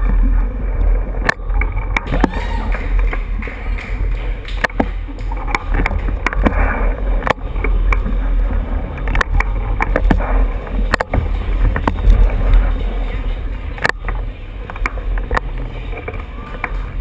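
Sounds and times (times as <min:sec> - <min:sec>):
bicycle tyres rolling: 0:00.0 - 0:17.0
bike clicks and rattles: 0:00.0 - 0:17.0.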